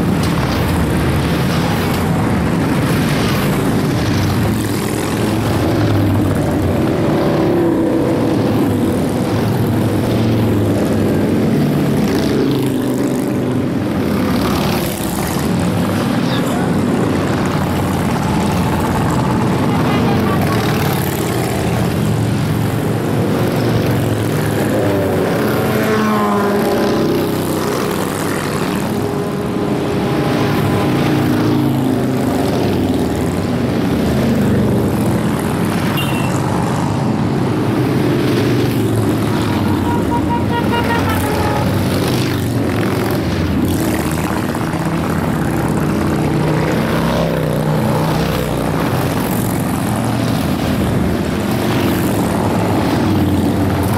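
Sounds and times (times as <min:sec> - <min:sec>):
motorcycles riding past: 0:00.0 - 0:53.9.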